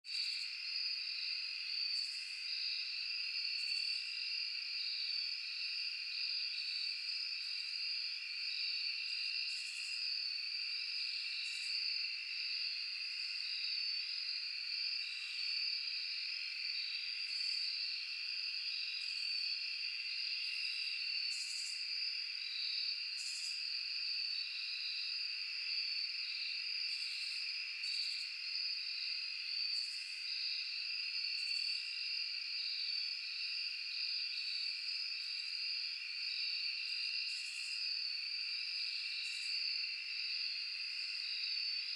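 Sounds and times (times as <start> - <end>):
crickets trilling: 0.1 - 41.9.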